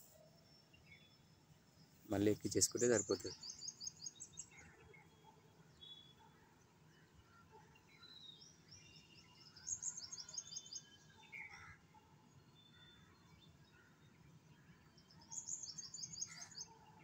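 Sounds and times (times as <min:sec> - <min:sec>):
small birds chirping: 0:00.0 - 0:11.8, 0:12.4 - 0:17.0.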